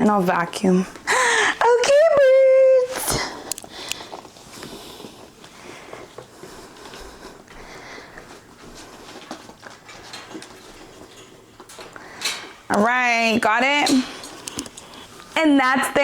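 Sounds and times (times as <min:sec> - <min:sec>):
faint rustling: 0:00.2 - 0:16.0.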